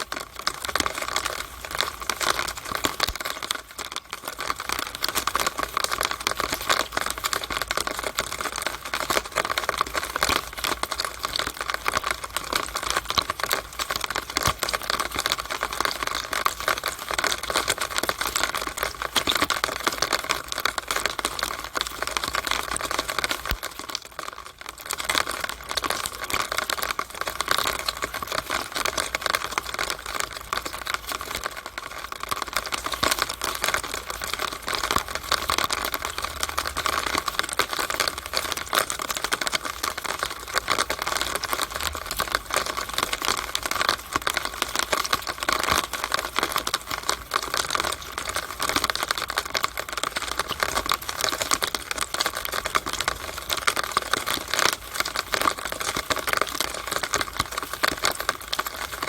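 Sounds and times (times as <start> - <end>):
rainwater dripping in downspout: 0.0 - 59.0.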